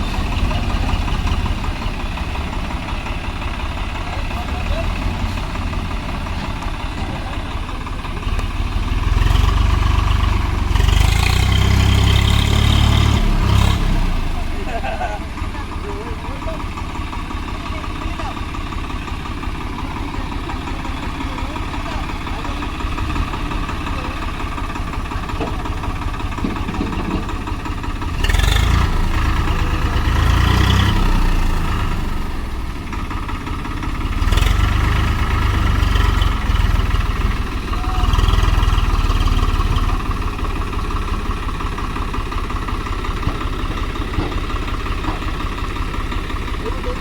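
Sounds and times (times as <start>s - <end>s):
diesel tractor engines revving: 0.0s - 47.0s.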